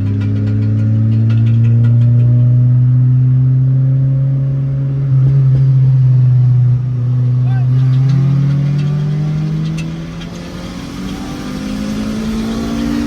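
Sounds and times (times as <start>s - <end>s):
car engine pulling under load: 0.0s - 13.0s.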